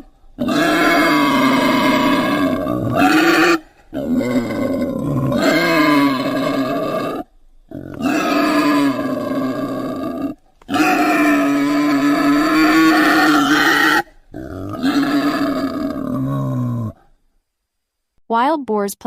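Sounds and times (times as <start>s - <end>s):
wild boar grunting: 0.0s - 17.1s.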